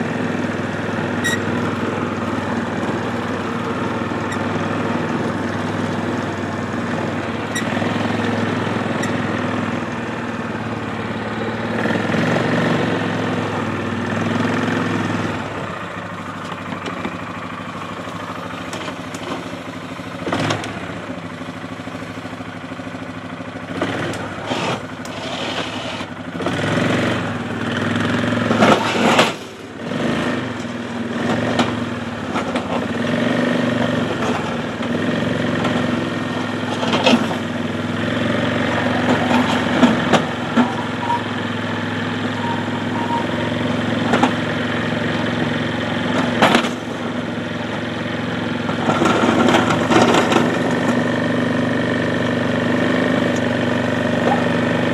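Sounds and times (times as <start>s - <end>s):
atv engine plowing slush: 0.0s - 19.6s, 23.7s - 54.9s.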